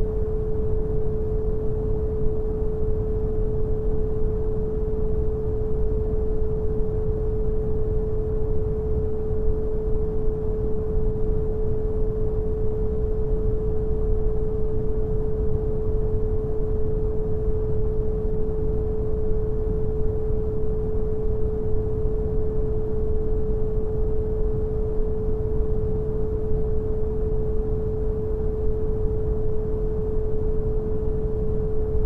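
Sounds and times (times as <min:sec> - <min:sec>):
pure sine tone: 0:00.0 - 0:32.0.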